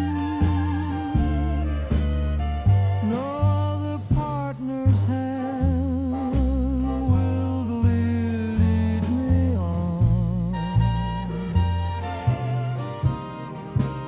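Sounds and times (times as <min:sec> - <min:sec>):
person singing: 0:00.0 - 0:13.8
old-time dance-band music: 0:00.0 - 0:14.0.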